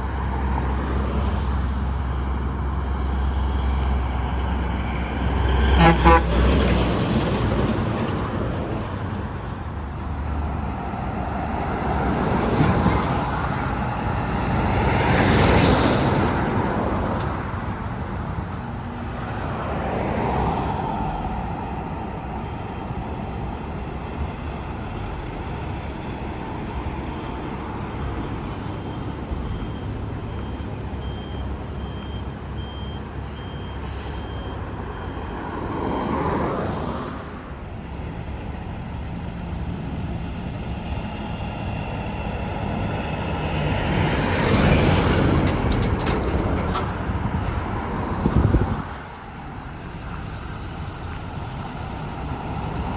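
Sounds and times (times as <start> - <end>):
highway traffic passing: 0.0 - 52.9.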